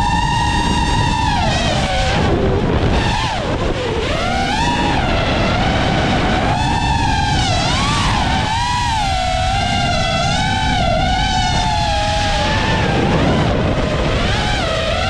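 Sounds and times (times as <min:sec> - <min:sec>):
drone motors whining: 0:00.0 - 0:15.0
low rushing noise: 0:00.0 - 0:15.0.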